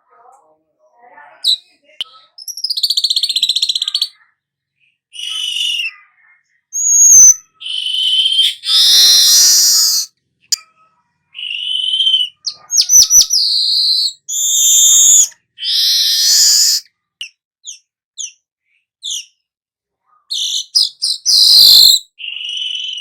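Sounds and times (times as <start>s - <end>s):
weaver bird song: 1.3s - 10.1s, 11.3s - 18.4s, 19.0s - 19.4s, 20.3s - 23.0s.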